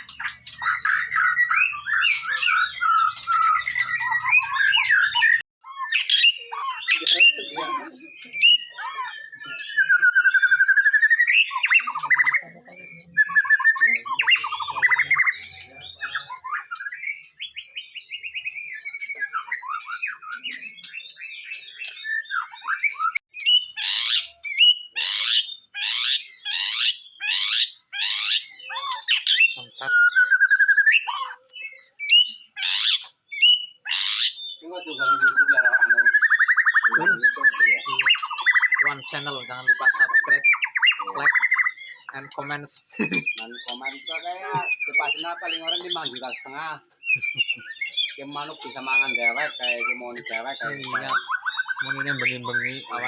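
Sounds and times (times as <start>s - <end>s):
songbird singing whistles: 0.0s - 42.2s, 42.9s - 53.0s
bird sharp falling calls: 0.0s - 53.0s.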